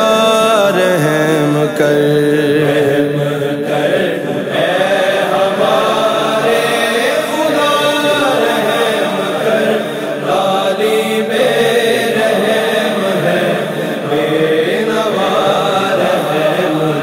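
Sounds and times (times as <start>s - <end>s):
devotional vocal chanting: 0.0s - 17.0s.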